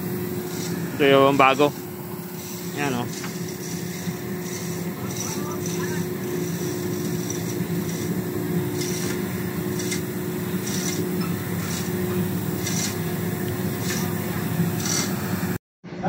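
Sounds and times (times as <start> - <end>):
low machinery hum: 0.0 - 16.0
glove rubbing steel piston: 0.3 - 15.2.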